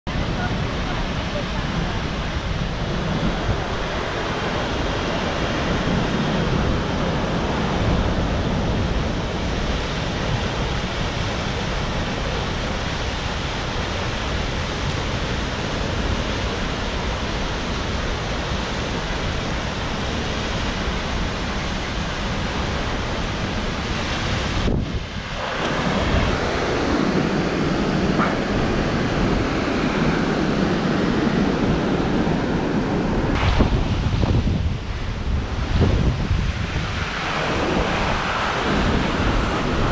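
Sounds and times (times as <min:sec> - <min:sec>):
waterfall roaring: 0:00.1 - 0:39.9
wind buffeting microphone: 0:00.1 - 0:39.9.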